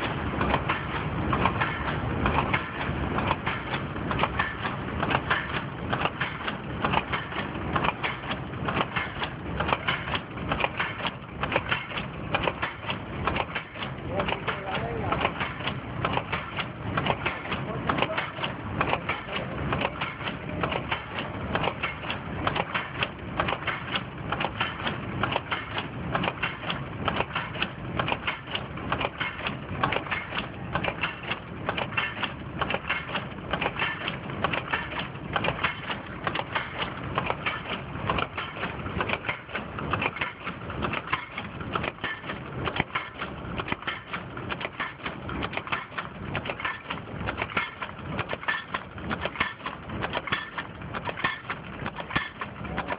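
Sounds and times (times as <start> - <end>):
machine metallic clatter: 0.0 - 52.9.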